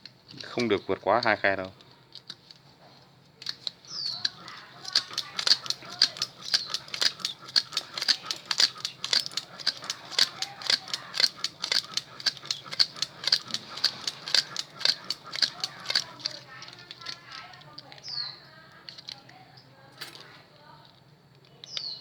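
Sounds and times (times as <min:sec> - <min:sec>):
rapid regular clicking: 0:00.0 - 0:02.6, 0:03.4 - 0:20.4.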